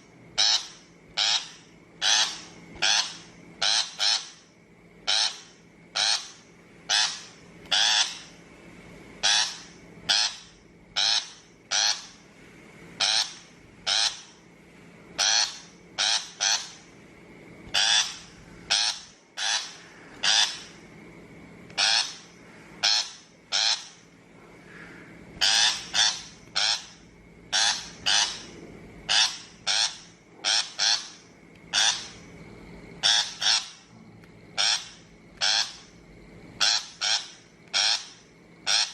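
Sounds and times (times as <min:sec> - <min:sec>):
shrike harsh rasping calls: 0:00.4 - 0:08.4, 0:09.2 - 0:12.3, 0:13.0 - 0:14.4, 0:15.2 - 0:16.9, 0:17.7 - 0:20.8, 0:21.7 - 0:32.3, 0:33.0 - 0:33.9, 0:34.6 - 0:36.0, 0:36.6 - 0:38.9.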